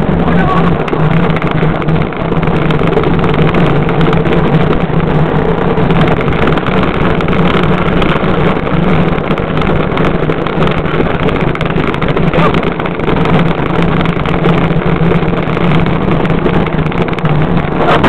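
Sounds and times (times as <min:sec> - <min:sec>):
wheels rumbling on pavement: 0:00.0 - 0:18.0.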